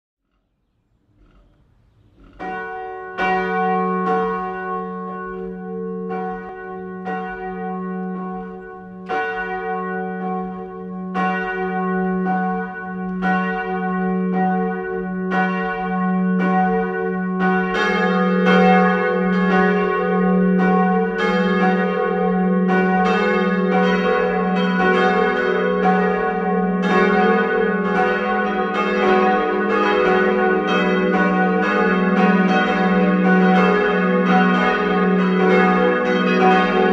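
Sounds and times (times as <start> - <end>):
church bells pealing: 2.3 - 36.9.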